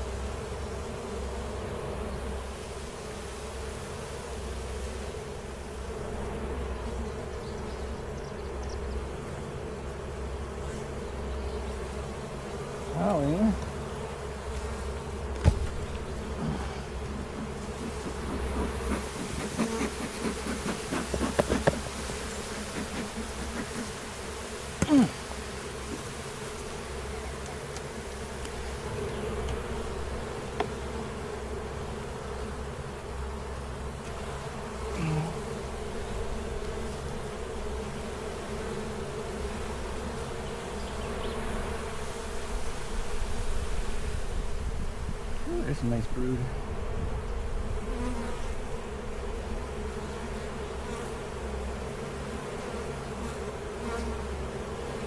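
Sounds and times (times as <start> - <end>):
bees buzzing: 0.0 - 55.0.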